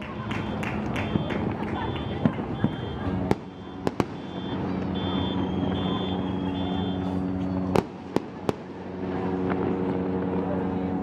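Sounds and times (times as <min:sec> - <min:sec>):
fireworks sharp bangs: 0:00.0 - 0:08.9
low droning hum: 0:00.0 - 0:11.0.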